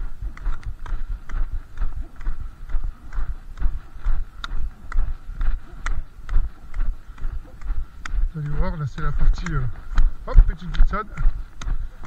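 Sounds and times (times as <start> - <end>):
footsteps on packed snow: 0.0 - 12.0
walking poles clicking on ice: 0.0 - 12.0.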